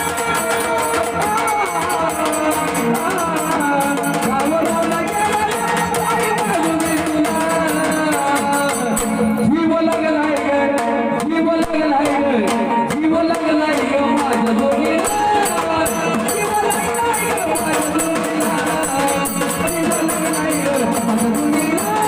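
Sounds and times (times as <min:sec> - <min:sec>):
jingling percussion: 0:00.0 - 0:10.5, 0:13.3 - 0:22.0
person singing: 0:00.0 - 0:22.0
steady drum beat: 0:00.0 - 0:22.0.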